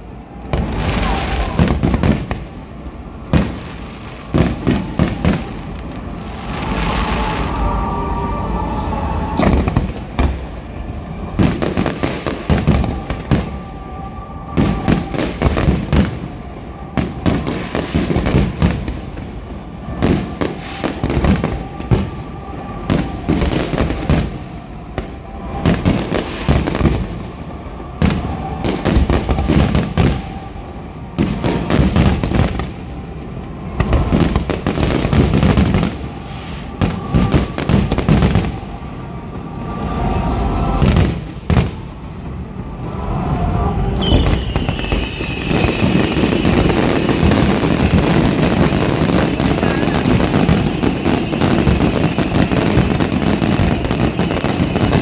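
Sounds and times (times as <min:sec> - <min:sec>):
fireworks bangs and crackles: 0:00.0 - 0:42.9, 0:43.6 - 0:55.0.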